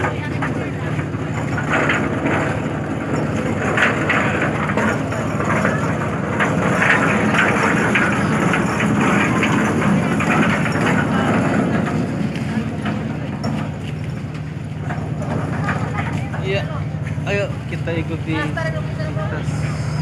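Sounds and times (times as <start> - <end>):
clatter and murmur of people: 0.0 - 20.0
ship engine hum: 0.0 - 20.0.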